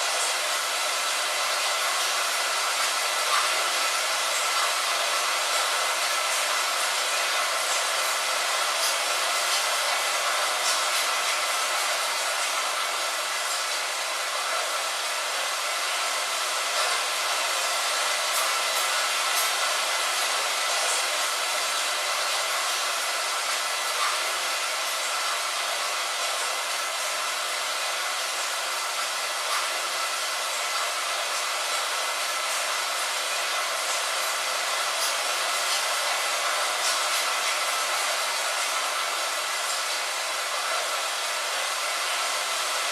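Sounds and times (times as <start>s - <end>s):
light rain on a window: 0.0s - 42.9s.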